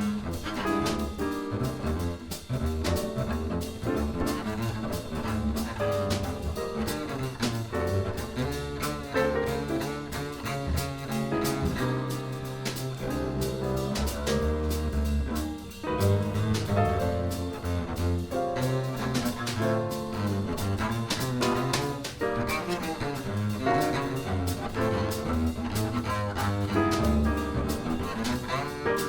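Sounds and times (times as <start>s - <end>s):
acoustic piano: 0.0s - 29.0s
drum kit with cymbals: 0.0s - 29.0s
upright double bass: 0.0s - 29.0s.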